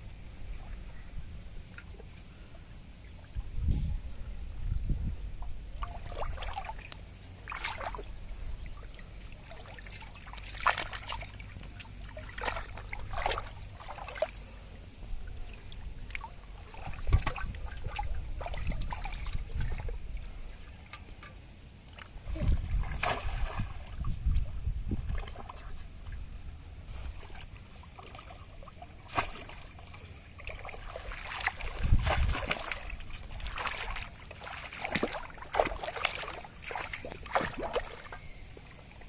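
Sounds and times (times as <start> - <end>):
shallow water splashing: 5.8 - 21.2, 21.9 - 26.3, 26.9 - 39.0.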